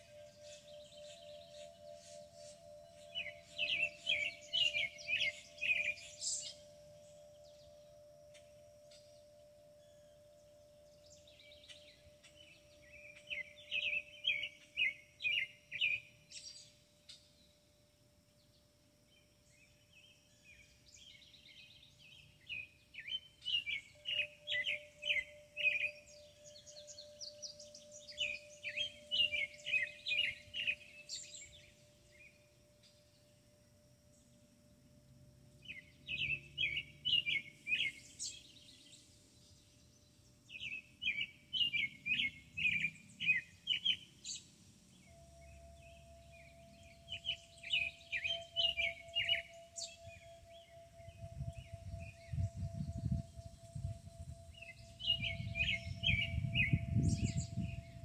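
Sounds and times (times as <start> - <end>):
faint steady tone: 0.0 - 58.0
songbird singing: 0.0 - 58.0.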